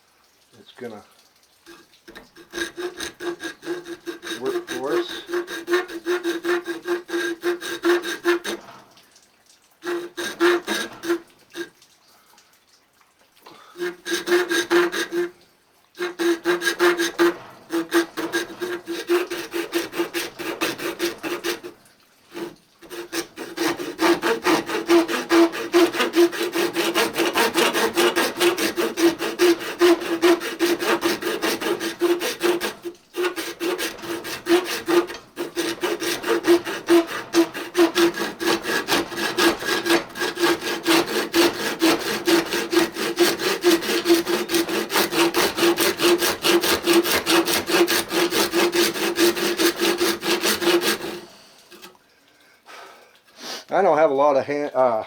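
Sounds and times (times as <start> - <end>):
hand saw cutting wood: 1.6 - 8.9, 9.8 - 11.8, 13.5 - 15.4, 16.0 - 52.0.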